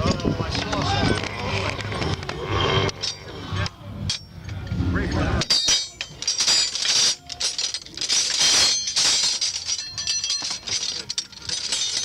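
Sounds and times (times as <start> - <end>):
hard objects clinking and rattling: 0.0 - 4.7, 5.3 - 12.0.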